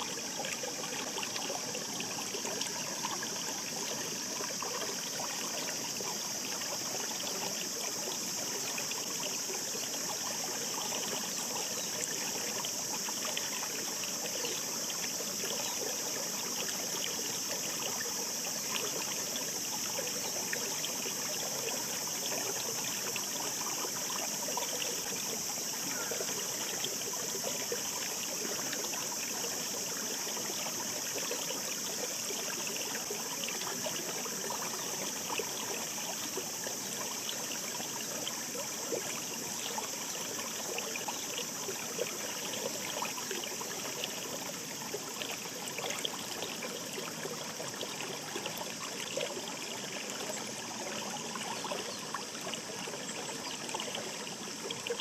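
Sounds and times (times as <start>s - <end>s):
mountain stream babbling: 0.0s - 55.0s.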